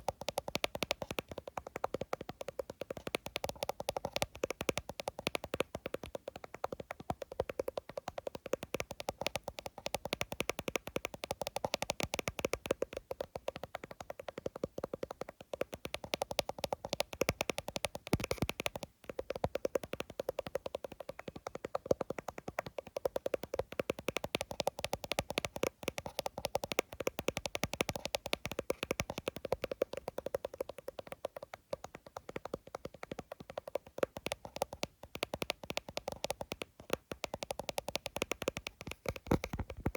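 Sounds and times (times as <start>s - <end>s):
fingertips tapping on phone glass: 0.0s - 39.9s.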